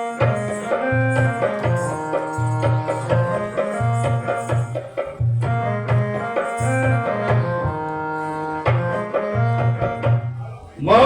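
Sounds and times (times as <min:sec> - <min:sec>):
melody of held notes: 0:00.0 - 0:10.5
drum beat: 0:00.0 - 0:10.7.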